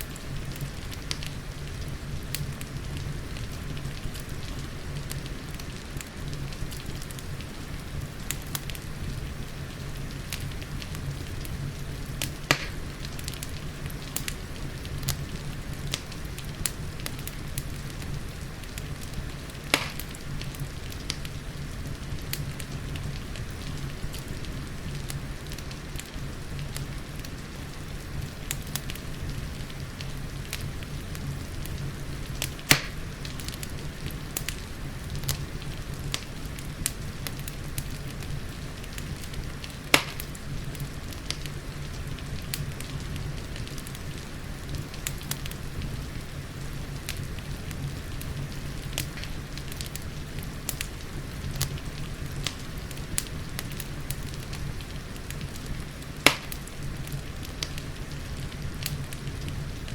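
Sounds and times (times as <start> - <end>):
rain hissing: 0.0 - 59.9
wood fire crackling: 0.0 - 59.9.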